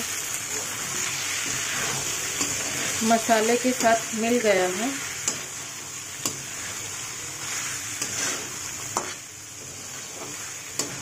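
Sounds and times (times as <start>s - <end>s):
food sizzling in a pan: 0.0s - 11.0s
spatula stirring and scraping: 0.0s - 11.0s.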